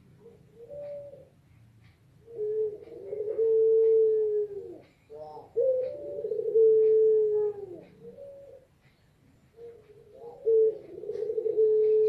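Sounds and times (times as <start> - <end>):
dove cooing: 0.0 - 1.5, 2.2 - 12.0.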